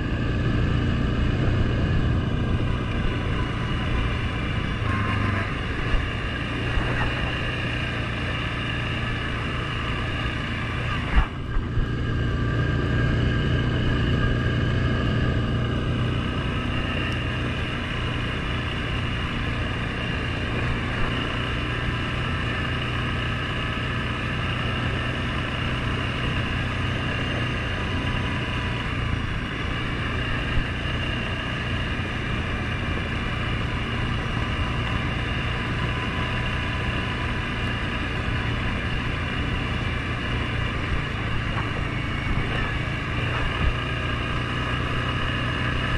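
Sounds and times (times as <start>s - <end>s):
atv engine running: 0.0s - 45.9s.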